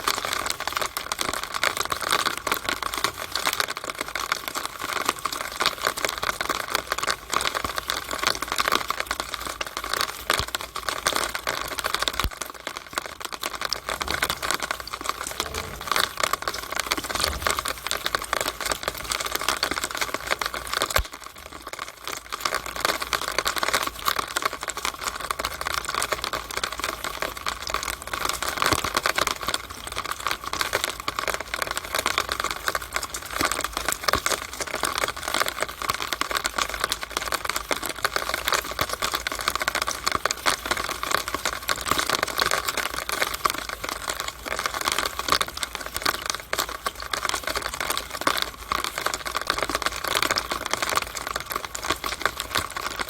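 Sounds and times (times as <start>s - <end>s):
rainwater running through downspout: 0.0s - 53.0s.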